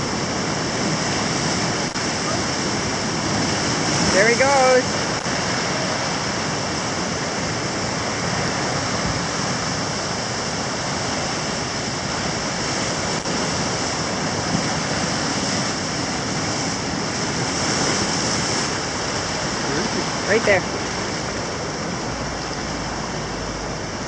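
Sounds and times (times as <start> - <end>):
ocean surf washing onto beach: 0.0 - 24.0.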